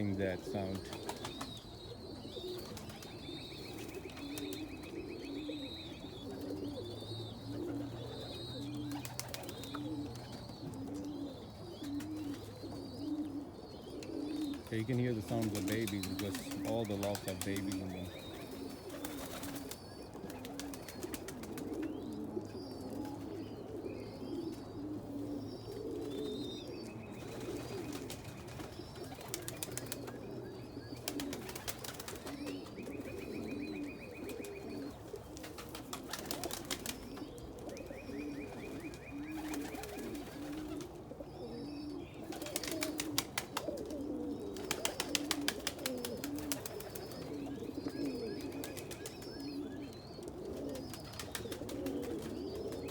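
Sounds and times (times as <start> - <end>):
pigeons cooing: 0.0 - 52.9
young pigeons cheeping: 0.0 - 52.9.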